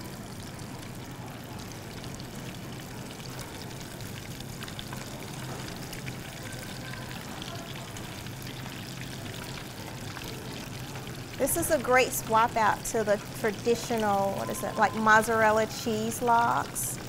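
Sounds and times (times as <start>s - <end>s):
deep-frying sizzle with crackling: 0.0s - 17.0s.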